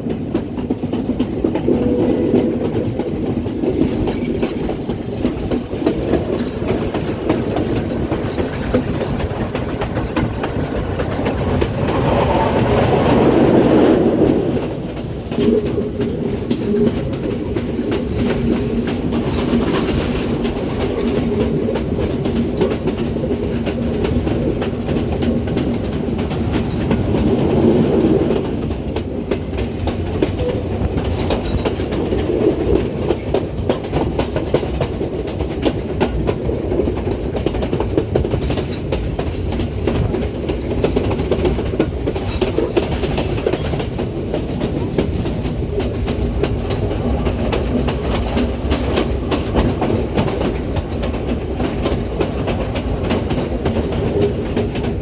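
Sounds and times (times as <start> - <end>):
passenger train rumbling on track: 0.0 - 55.0
train wheels clicking and rattling: 0.0 - 55.0.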